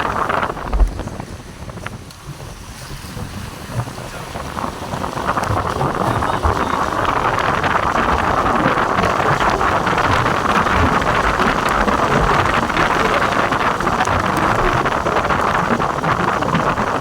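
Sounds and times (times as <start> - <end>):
rain pouring down: 0.0 - 17.0
wind rumble on microphone: 0.0 - 17.0.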